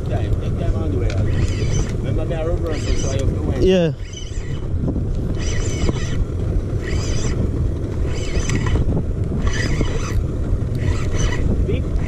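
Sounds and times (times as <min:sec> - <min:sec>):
boat motor running: 0:00.0 - 0:12.0
wind: 0:00.0 - 0:12.0
fishing reel whirring: 0:01.1 - 0:12.0.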